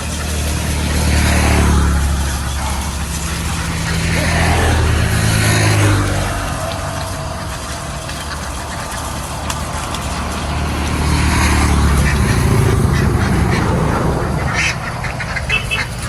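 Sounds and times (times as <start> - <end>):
ducks quacking: 0.0 - 16.0
engine drone: 0.0 - 16.0.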